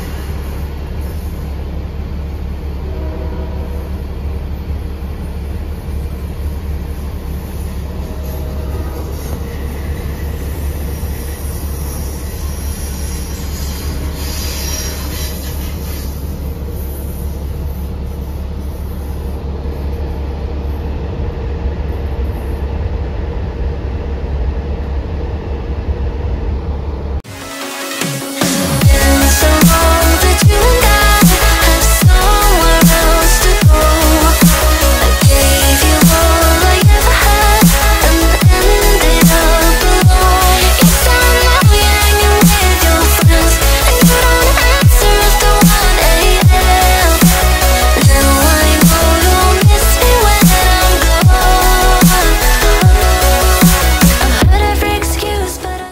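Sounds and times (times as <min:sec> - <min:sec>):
bus engine and road noise: 0:00.0 - 0:27.3, 0:28.2 - 0:55.9
train rumbling past: 0:00.0 - 0:55.9.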